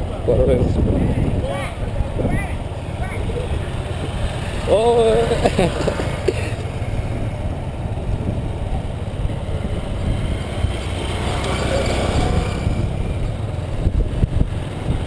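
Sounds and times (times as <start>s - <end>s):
motorcycle engines rumbling: 0.0s - 15.0s
road noise: 0.0s - 15.0s
wind noise: 0.0s - 15.0s.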